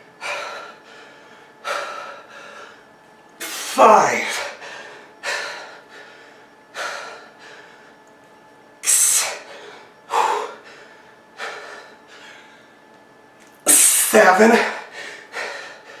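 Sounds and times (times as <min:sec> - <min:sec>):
man breathing heavily: 0:00.0 - 0:08.0, 0:08.8 - 0:12.8, 0:14.4 - 0:16.0.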